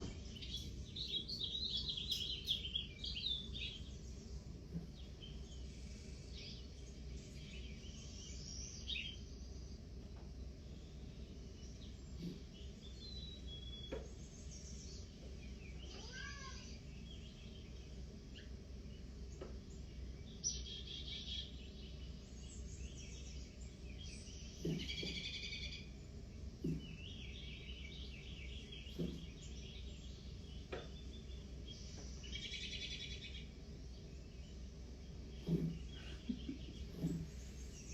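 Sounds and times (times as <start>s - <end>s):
low hum: 0.0s - 37.9s
recorded birds chirping: 0.0s - 37.9s.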